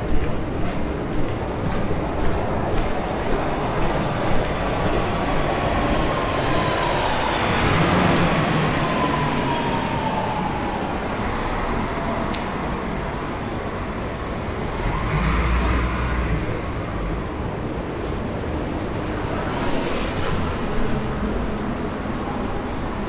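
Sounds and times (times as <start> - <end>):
city traffic: 0.0 - 23.0
rail vehicles running: 0.0 - 23.0.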